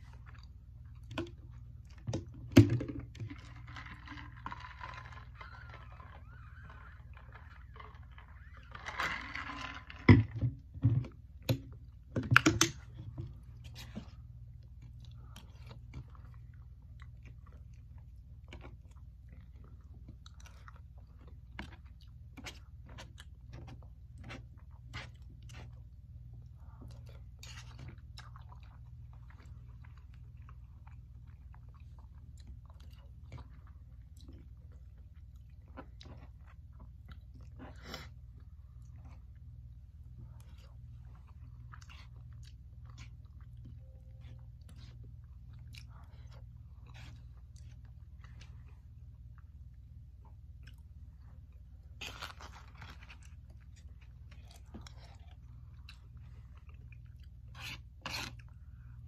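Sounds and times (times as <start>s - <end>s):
chewing: 0.0s - 2.4s, 3.0s - 9.2s, 12.8s - 59.0s
low hum: 0.0s - 59.0s.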